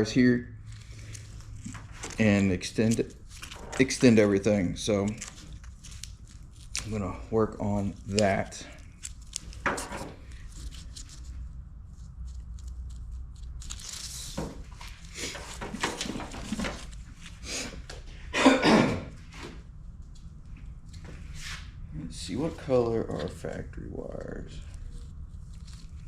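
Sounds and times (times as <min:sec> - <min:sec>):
rustling and handling noises: 0:00.6 - 0:18.2, 0:19.2 - 0:26.0.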